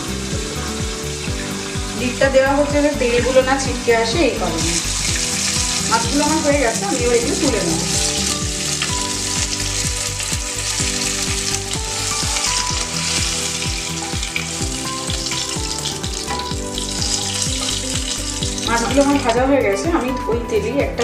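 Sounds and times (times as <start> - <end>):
fish sizzling in oil: 0.0 - 19.9
background music with beat: 0.0 - 21.0.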